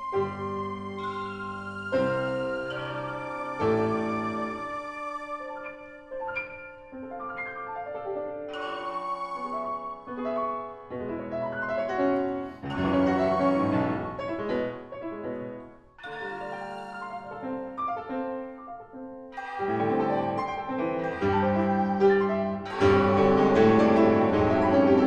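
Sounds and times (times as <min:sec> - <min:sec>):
grand piano playing: 0:00.0 - 0:25.0.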